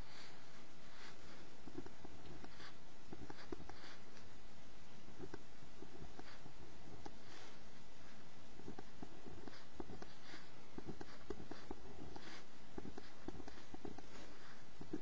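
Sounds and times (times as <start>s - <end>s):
pencil writing on paper: 0.0s - 4.1s, 5.2s - 7.6s, 8.6s - 15.0s.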